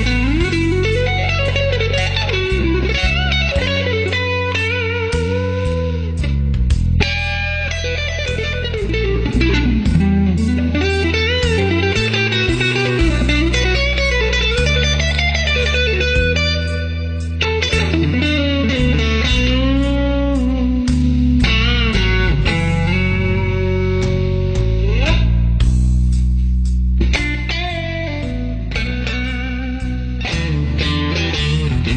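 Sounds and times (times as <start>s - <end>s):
bass line: 0.0s - 31.9s
electric guitar music: 0.0s - 31.9s.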